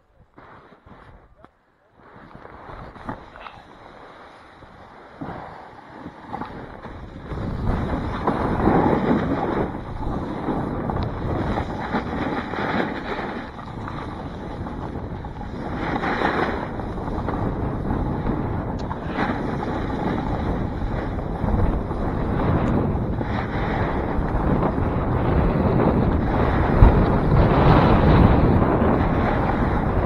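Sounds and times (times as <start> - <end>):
snowboard sliding on snow: 0.3 - 1.4, 2.0 - 30.0
wind on microphone: 2.0 - 30.0.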